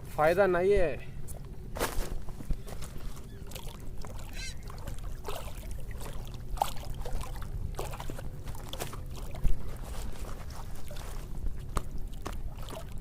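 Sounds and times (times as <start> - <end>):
steady low rumble: 0.0 - 13.0
water sloshing and trickling: 0.0 - 13.0.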